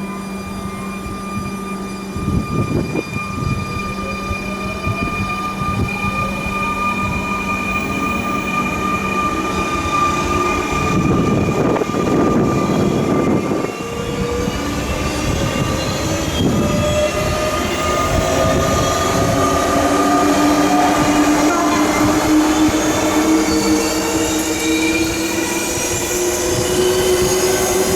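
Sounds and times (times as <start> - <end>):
electric train motors whining: 0.0 - 27.9
wheels rumbling on rail: 0.0 - 27.9.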